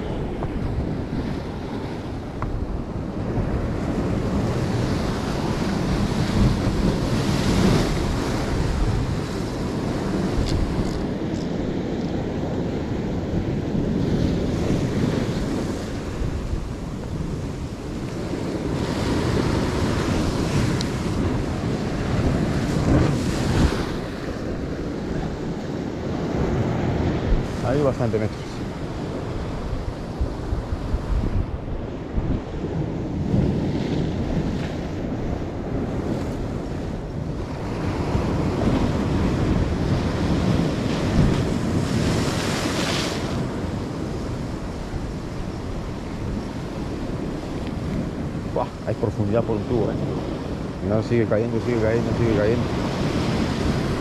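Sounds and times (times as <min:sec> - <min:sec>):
surf breaking on shore: 0:00.0 - 0:54.0
wind buffeting microphone: 0:00.0 - 0:54.0.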